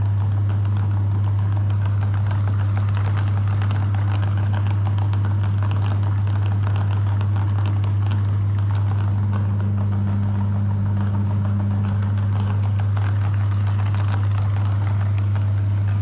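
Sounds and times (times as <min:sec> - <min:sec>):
electric meat grinder motor hum: 0:00.0 - 0:16.0.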